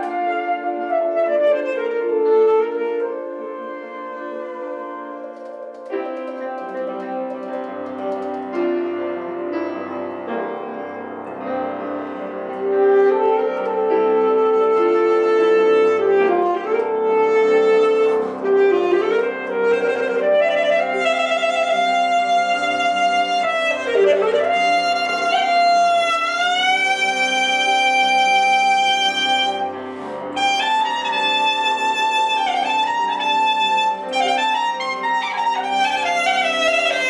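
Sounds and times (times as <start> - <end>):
saxophone melody: 0.0 - 9.7, 11.4 - 37.0
piano accompaniment: 0.0 - 37.0.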